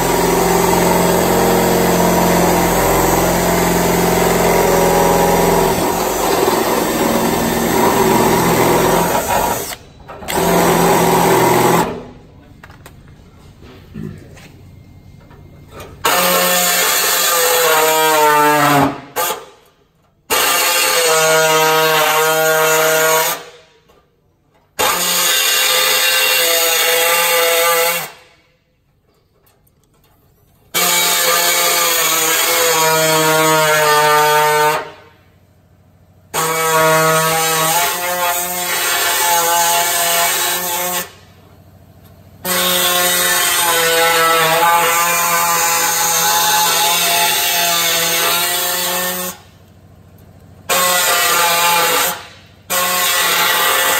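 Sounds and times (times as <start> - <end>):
pneumatic cutting tool whine: 0.0 - 12.2, 15.5 - 19.6, 20.3 - 23.7, 24.8 - 28.4, 30.7 - 35.2, 36.3 - 41.4, 42.4 - 49.6, 50.6 - 53.9.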